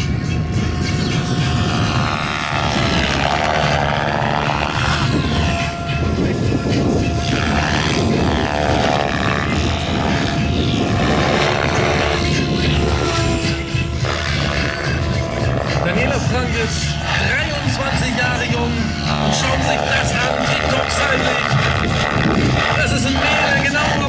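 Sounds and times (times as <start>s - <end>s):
electric motor whine: 0.0s - 24.0s
model helicopter rotor blades swishing: 0.0s - 24.0s.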